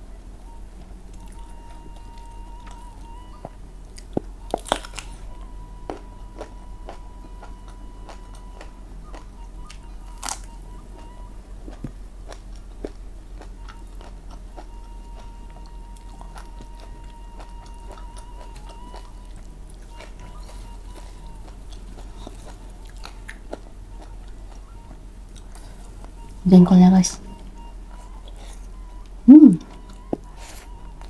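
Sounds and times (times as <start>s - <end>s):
person chewing and smacking: 0.5s - 26.4s, 27.4s - 31.0s.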